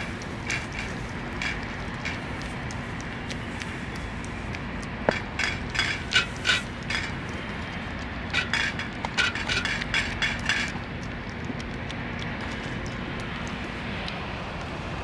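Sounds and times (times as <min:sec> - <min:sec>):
cat chewing crackly food: 0:00.0 - 0:15.0.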